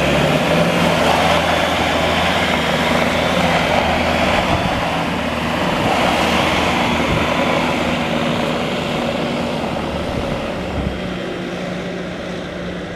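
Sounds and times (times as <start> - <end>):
broad rushing noise: 0.0 - 12.9
diesel engine running: 0.0 - 12.9.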